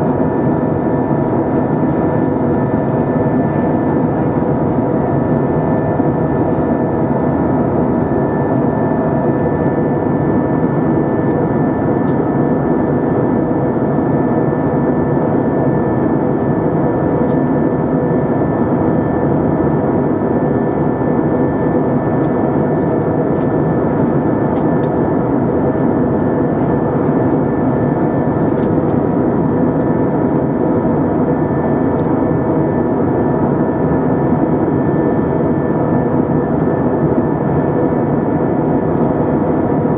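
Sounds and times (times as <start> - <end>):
aircraft engine and airflow noise: 0.0 - 39.9.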